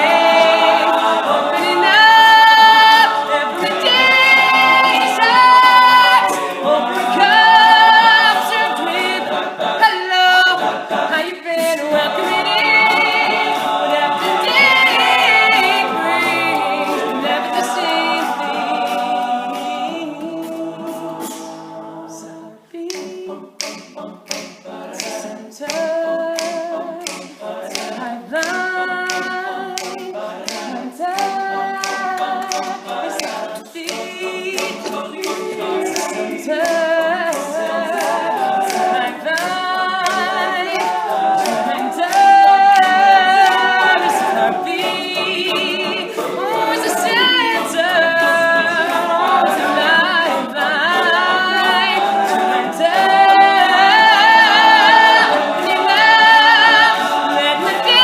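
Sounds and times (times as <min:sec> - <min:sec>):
steady clicking beat: 0:00.0 - 0:09.8, 0:11.8 - 0:21.6, 0:22.8 - 0:58.0
men singing harmony a cappella: 0:00.0 - 0:58.0.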